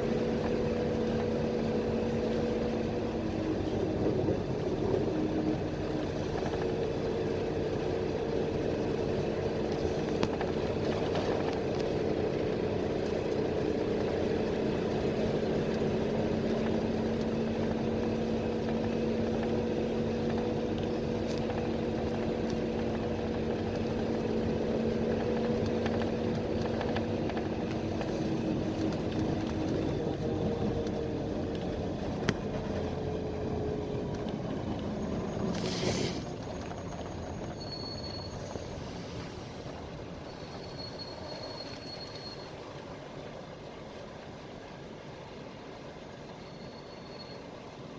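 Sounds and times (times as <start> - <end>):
bus engine drone: 0.0 - 47.9
road noise: 0.0 - 47.9.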